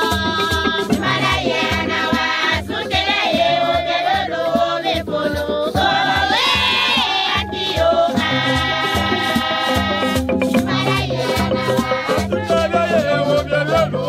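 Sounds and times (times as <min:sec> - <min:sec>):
choir singing in parts: 0:00.0 - 0:14.0.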